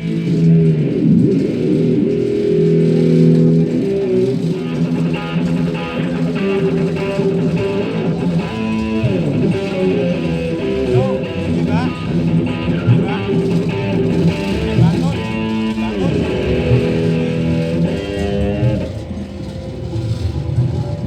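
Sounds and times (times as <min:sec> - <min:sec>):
loud guitar and bass music: 0:00.0 - 0:21.0.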